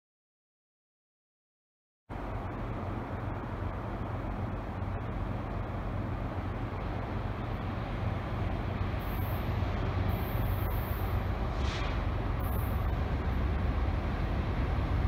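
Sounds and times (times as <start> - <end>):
distant locomotive engine rumble: 2.1 - 15.0.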